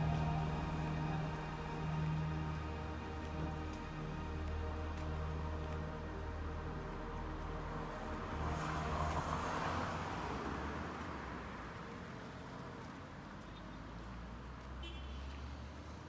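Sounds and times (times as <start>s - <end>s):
car passing by: 0.0s - 16.0s
low rumble of city traffic: 0.0s - 16.0s.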